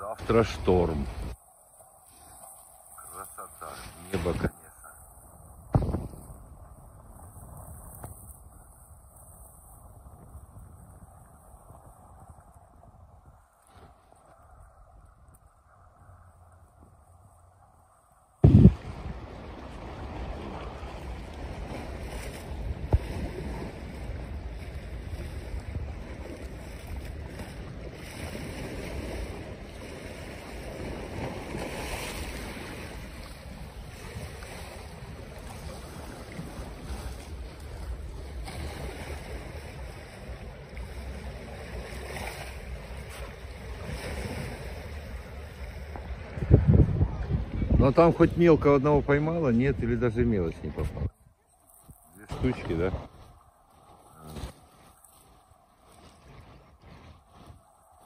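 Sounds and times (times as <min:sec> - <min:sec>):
wind noise on microphone: 0:04.3 - 0:49.9, 0:50.6 - 0:58.0.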